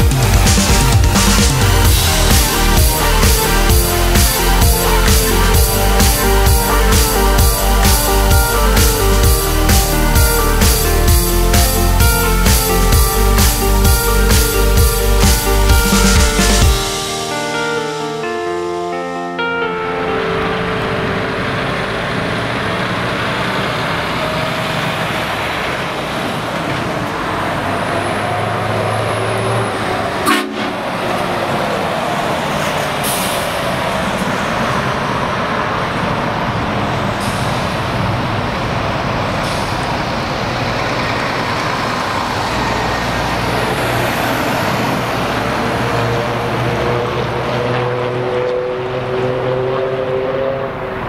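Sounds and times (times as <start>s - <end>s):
diesel truck engine driving: 0.0s - 17.7s, 18.3s - 51.0s
road and traffic noise: 0.0s - 51.0s.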